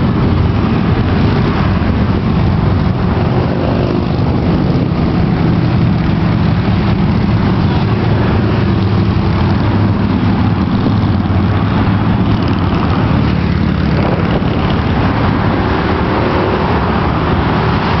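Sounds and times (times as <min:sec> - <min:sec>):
car road noise: 0:00.0 - 0:18.0
traffic rumble: 0:00.0 - 0:18.0.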